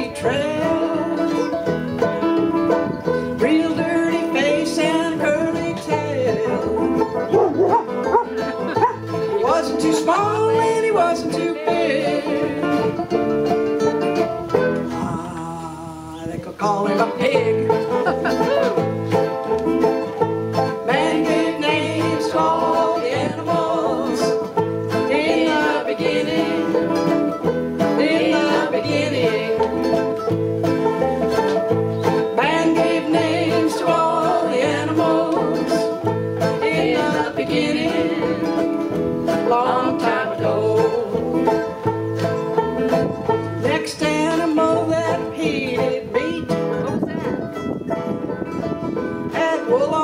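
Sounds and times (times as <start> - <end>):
bluegrass string band playing: 0.0 - 50.0.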